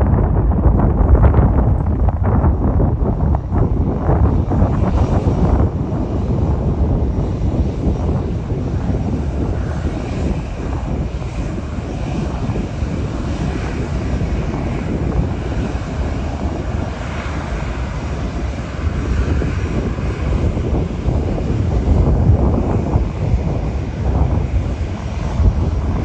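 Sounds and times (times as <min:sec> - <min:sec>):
aircraft engines rushing: 0:00.0 - 0:26.0.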